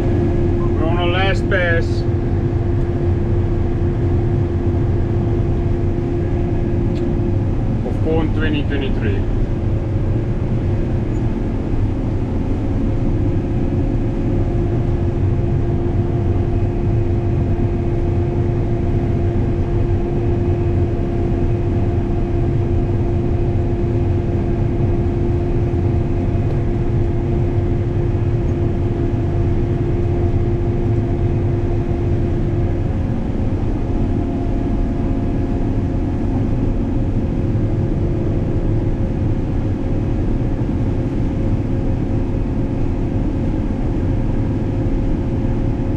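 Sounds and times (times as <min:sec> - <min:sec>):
combine harvester drone: 0:00.0 - 0:45.9.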